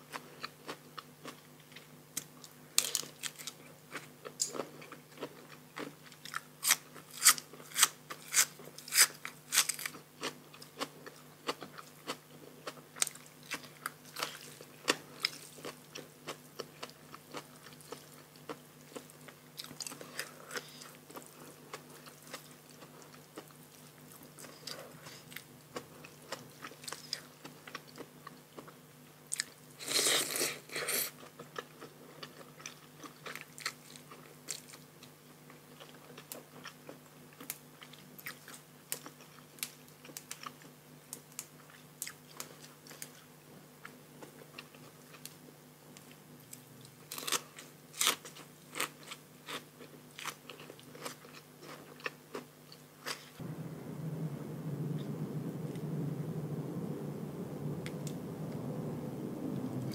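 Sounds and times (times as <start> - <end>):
chewing and crunching food: 0.0 - 53.4.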